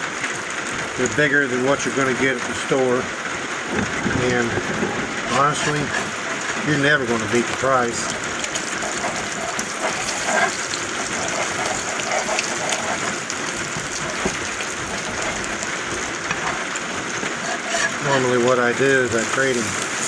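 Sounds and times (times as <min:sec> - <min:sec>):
eggs frying in a pan: 0:00.0 - 0:20.0
rain on a roof: 0:00.0 - 0:20.0.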